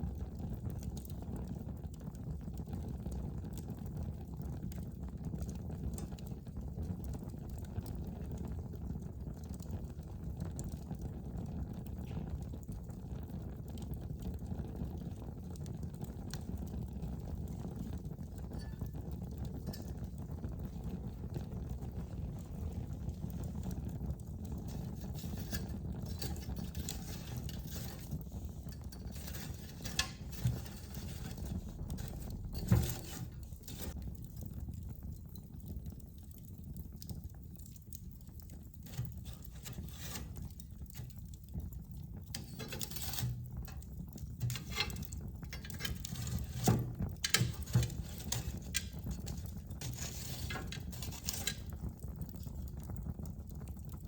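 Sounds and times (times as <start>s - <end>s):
fire crackling and popping: 0.0s - 54.0s
fireplace fire rumbling: 0.0s - 54.0s.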